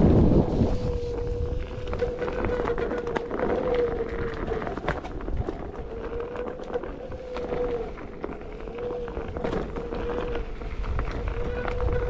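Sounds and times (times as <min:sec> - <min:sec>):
tyre rumbling on dirt: 0:00.0 - 0:12.0
twigs clicking under wheel: 0:00.9 - 0:12.0.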